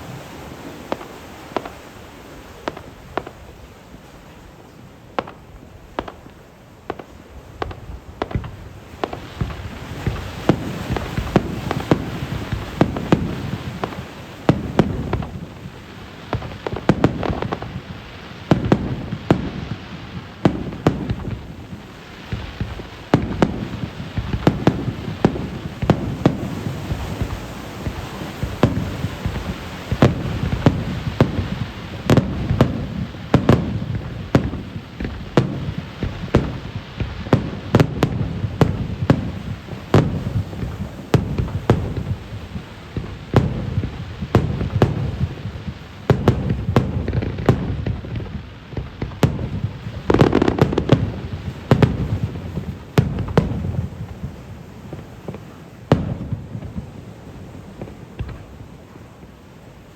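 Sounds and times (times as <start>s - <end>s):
fireworks booming: 0.0s - 4.1s, 5.1s - 59.9s.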